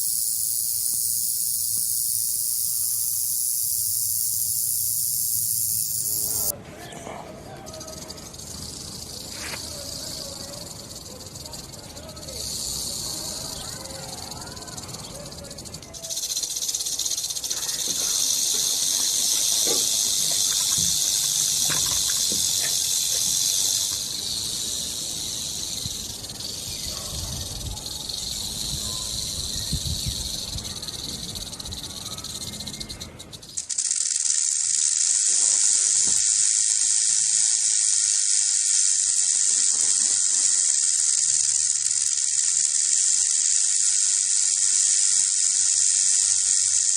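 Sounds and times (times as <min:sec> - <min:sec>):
rattlesnake tail rattling: 0:00.0 - 0:06.5, 0:07.7 - 0:46.9.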